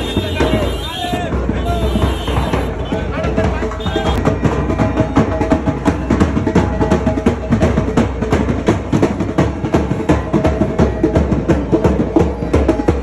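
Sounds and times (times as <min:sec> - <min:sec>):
fast steady drumming: 0:00.0 - 0:13.0.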